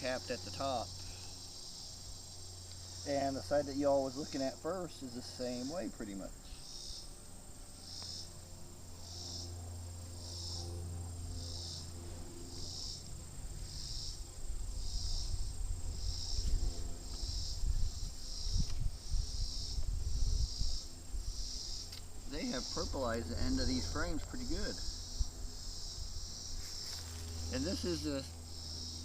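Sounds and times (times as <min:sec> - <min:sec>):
bees humming: 0:00.0 - 0:29.0
insects chirping: 0:00.0 - 0:29.0.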